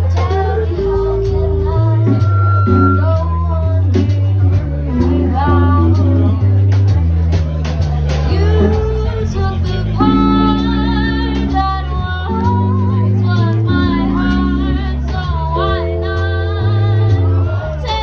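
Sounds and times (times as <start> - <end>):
woman singing with vibrato: 0.0 - 6.5, 8.3 - 18.0
keyboard chords: 0.0 - 18.0
walking bass line: 0.0 - 18.0.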